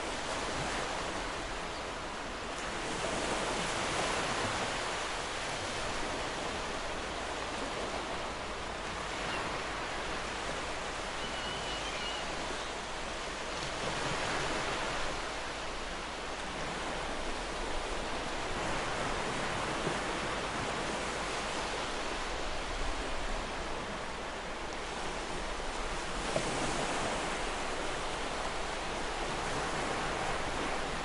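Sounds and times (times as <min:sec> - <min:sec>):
ocean surf on beach: 0:00.0 - 0:31.0.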